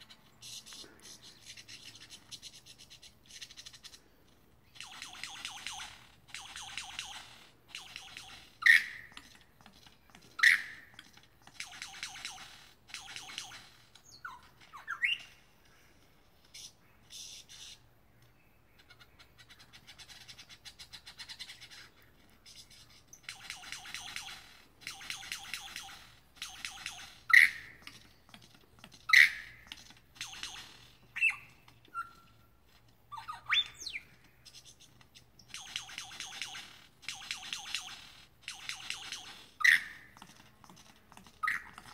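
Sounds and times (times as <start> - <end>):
lyrebird rattling song: 0.0 - 41.9.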